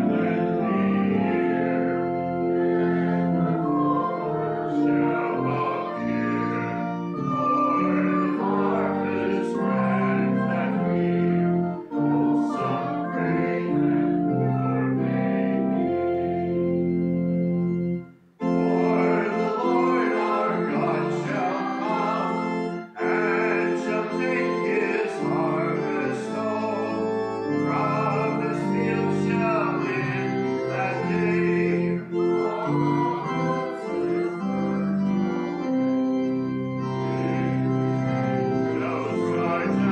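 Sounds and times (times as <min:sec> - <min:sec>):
congregation singing: 0:00.0 - 0:17.0, 0:18.4 - 0:39.9
organ playing held chords: 0:00.0 - 0:39.9.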